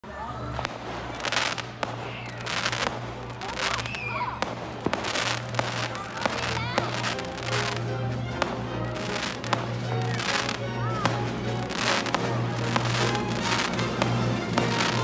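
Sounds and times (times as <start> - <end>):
fireworks hissing and crackling: 0.1 - 15.0
music playing: 0.1 - 15.0
fireworks bangs: 0.4 - 15.0.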